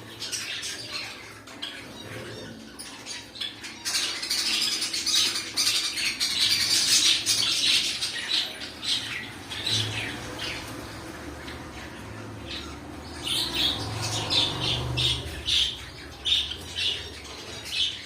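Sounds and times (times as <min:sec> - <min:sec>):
cockatiels chirping and squawking: 0:00.0 - 0:18.0.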